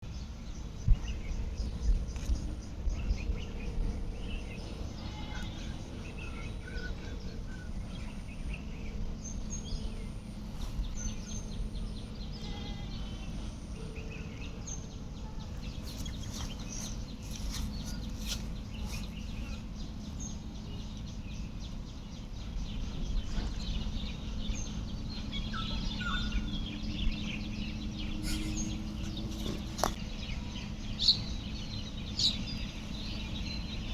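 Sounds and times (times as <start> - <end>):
faint hum: 0.0 - 33.9
bird chirps: 0.1 - 33.9.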